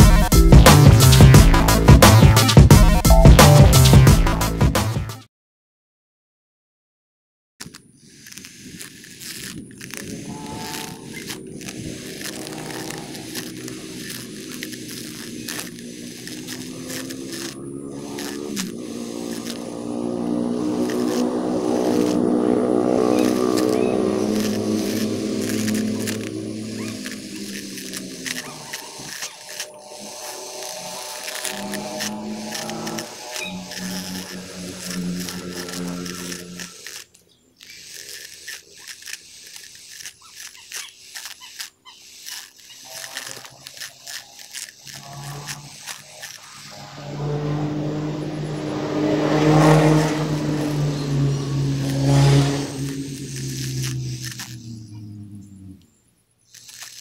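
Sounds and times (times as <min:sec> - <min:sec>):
rustling: 0:07.6 - 0:47.0, 0:49.4 - 0:57.0
grass cutter motor running: 0:07.6 - 0:55.8, 0:56.5 - 0:57.0.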